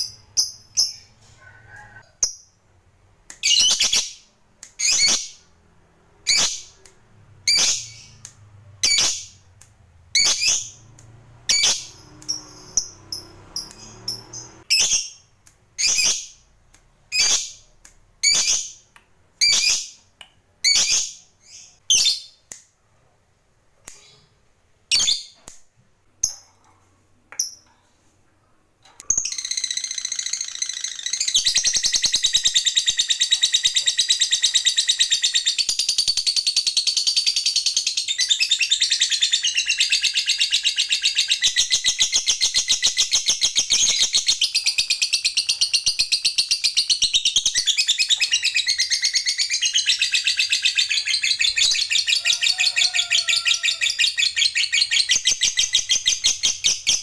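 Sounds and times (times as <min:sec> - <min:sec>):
lovebird chirps: 0:00.0 - 0:02.6, 0:03.3 - 0:22.6, 0:24.9 - 0:25.5, 0:29.0 - 0:57.0.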